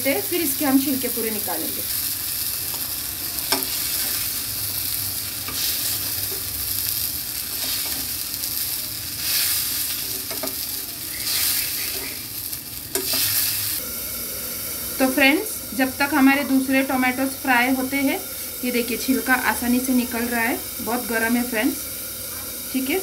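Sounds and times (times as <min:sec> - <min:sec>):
tomatoes sizzling in oil: 0:00.0 - 0:23.0.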